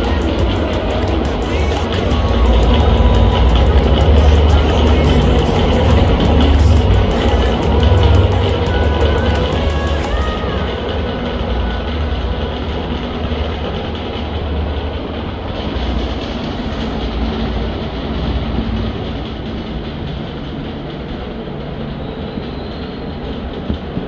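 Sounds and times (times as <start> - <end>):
ceiling fan rattling: 0.0 - 24.0.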